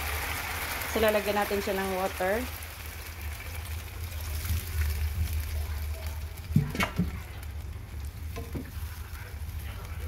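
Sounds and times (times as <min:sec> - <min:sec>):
chicken sizzling in wok: 0:00.0 - 0:10.0.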